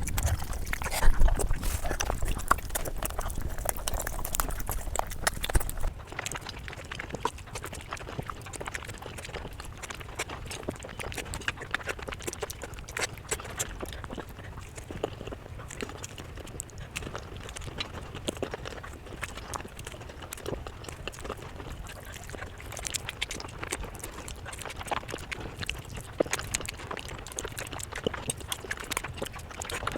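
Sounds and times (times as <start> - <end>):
chewing crunches and mouth clicks: 0.0 - 29.9.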